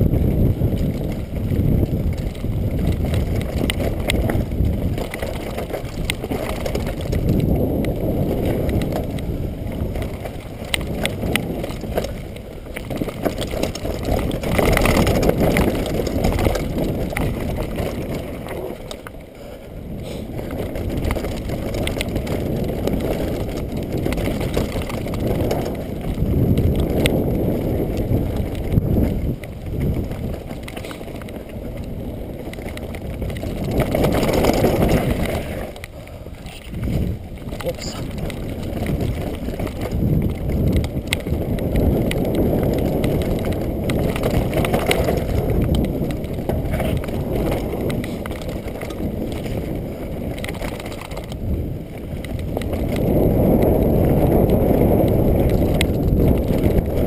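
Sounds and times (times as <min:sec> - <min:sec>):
tyres rolling on dirt: 0:00.0 - 0:57.0
wind on microphone: 0:00.0 - 0:57.0
bike clattering over rocks: 0:00.4 - 0:19.2, 0:20.4 - 0:57.0.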